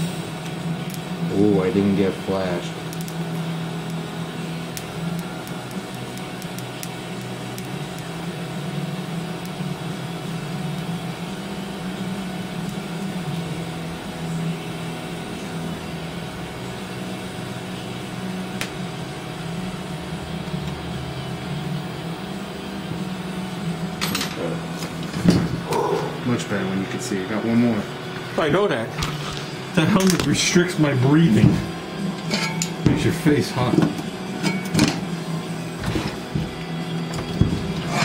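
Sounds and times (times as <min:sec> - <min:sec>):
welder humming with hiss: 0:00.0 - 0:38.0.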